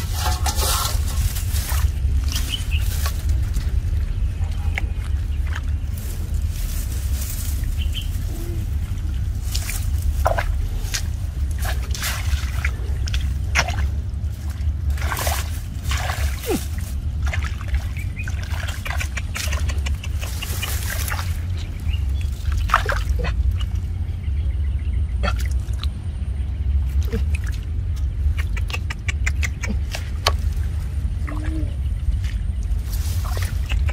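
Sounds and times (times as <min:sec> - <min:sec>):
muddy water sloshing and splashing: 0:00.0 - 0:24.3, 0:25.1 - 0:33.9
steady low rumble: 0:00.0 - 0:33.9.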